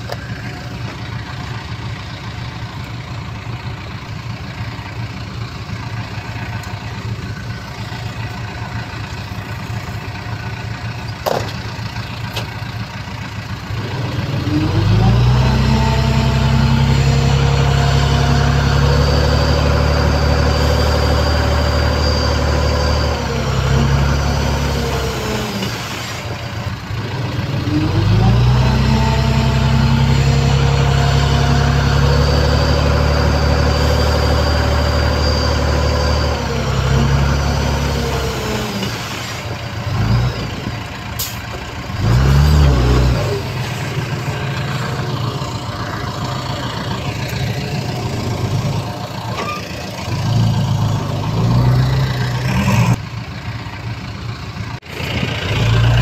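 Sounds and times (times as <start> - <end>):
bulldozer diesel engine revving: 0.0 - 56.0.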